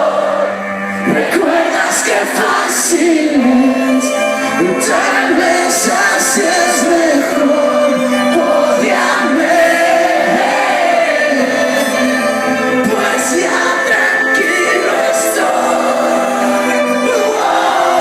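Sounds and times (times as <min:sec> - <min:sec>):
acoustic rock band playing: 0:00.0 - 0:18.0
crowd singing along: 0:00.0 - 0:18.0.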